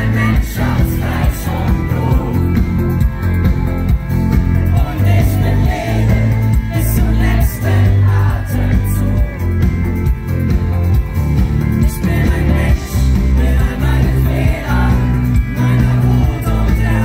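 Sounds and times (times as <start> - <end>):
drums with cymbal hits: 0.0 - 17.0
electric guitar: 0.0 - 17.0
heavy bass line: 0.0 - 17.0
live pop-rock band: 0.0 - 17.0.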